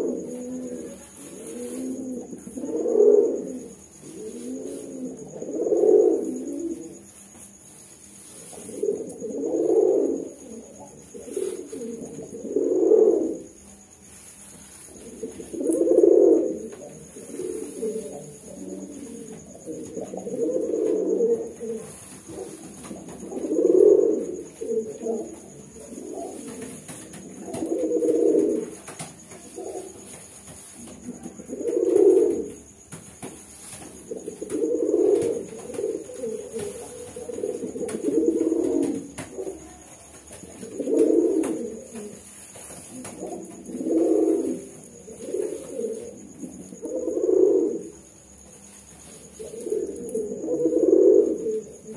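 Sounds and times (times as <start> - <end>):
pigeons cooing: 0.0 - 7.2, 8.4 - 13.7, 14.8 - 51.9.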